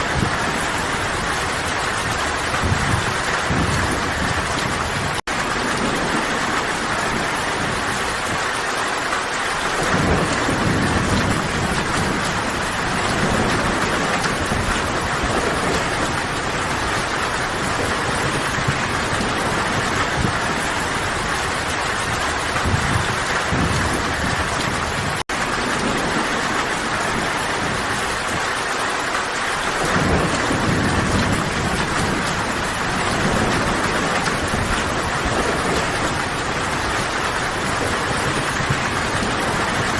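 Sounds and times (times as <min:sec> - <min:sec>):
distant thunder rolls: 0:00.0 - 0:08.6, 0:09.5 - 0:28.6, 0:29.5 - 0:39.9
heavy rainfall: 0:00.0 - 0:39.9.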